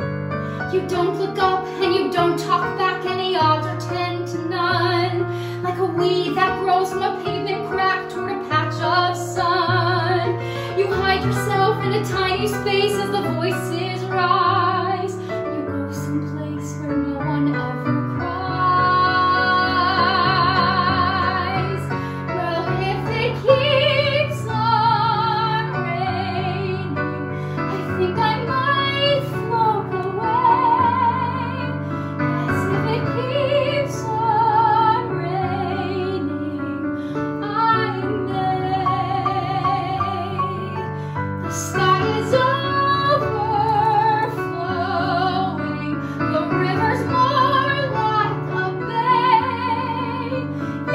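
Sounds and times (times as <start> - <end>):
woman singing with vibrato: 0.7 - 27.0, 27.7 - 36.8, 37.4 - 40.9, 41.5 - 50.9.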